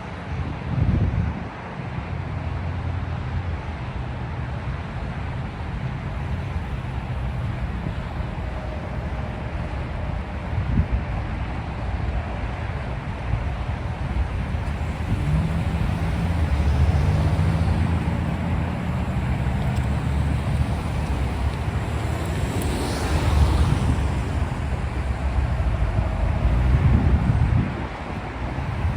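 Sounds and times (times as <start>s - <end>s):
wind on microphone: 0.0s - 2.3s, 4.6s - 28.9s
freight train rumbling past: 1.8s - 28.9s.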